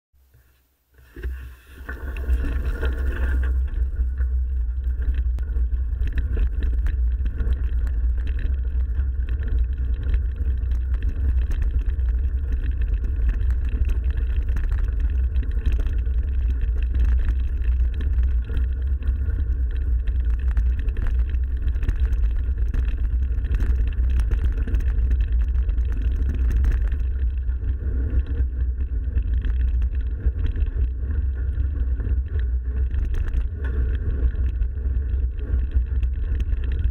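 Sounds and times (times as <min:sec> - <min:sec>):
wind and rolling noise: 0:00.2 - 0:36.9
bike knocks and rattles: 0:01.1 - 0:36.9.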